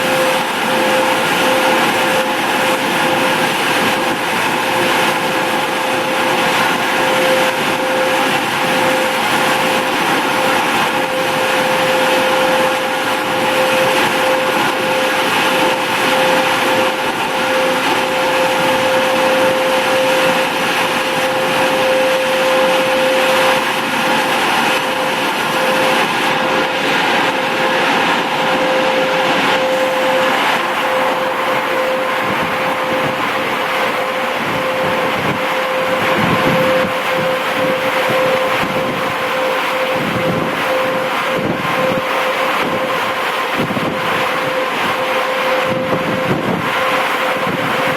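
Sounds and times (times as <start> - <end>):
car wash machinery whirring: 0.0 - 47.9
constant high whine: 0.0 - 47.9.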